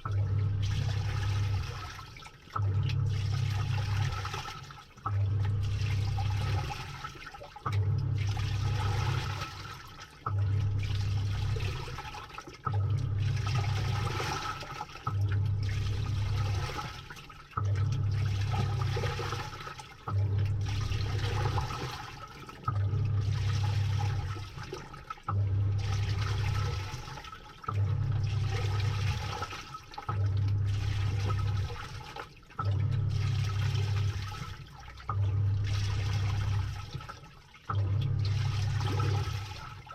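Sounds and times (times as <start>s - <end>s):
washing machine motor humming: 0.0s - 39.9s
water swishing: 0.0s - 39.9s.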